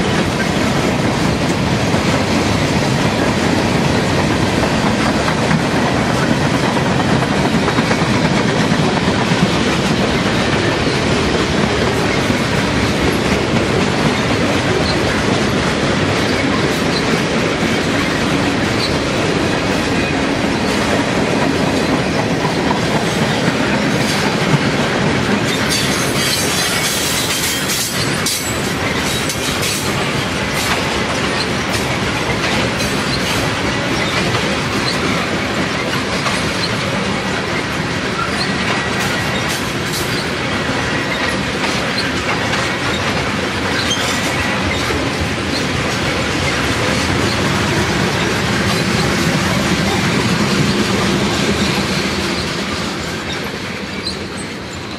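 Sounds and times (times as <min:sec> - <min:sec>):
clickety-clack over rail joints: 0:00.0 - 0:54.9
freight train wheel rumble: 0:00.0 - 0:54.9.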